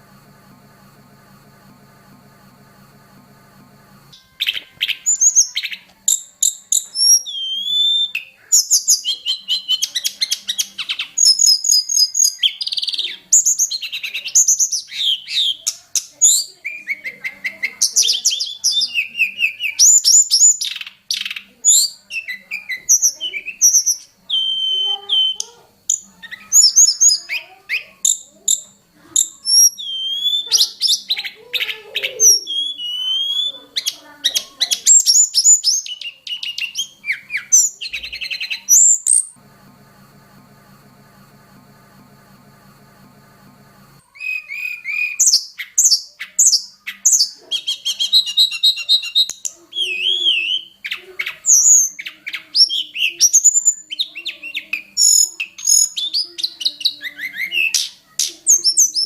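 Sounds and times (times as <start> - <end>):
songbird singing: 4.1 - 39.4, 44.0 - 59.0.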